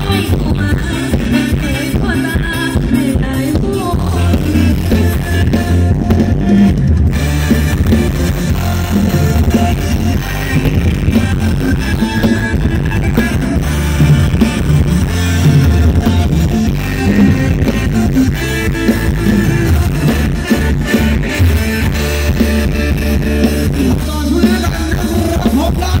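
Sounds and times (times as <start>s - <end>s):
live band dance music: 0.0s - 26.0s.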